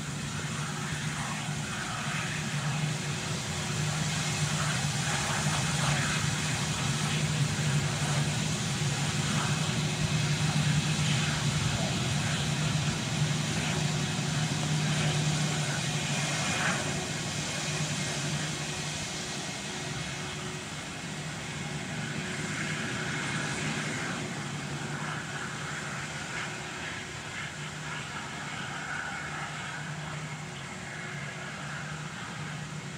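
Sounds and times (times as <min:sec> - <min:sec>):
jet engines taxiing: 0:00.0 - 0:32.9.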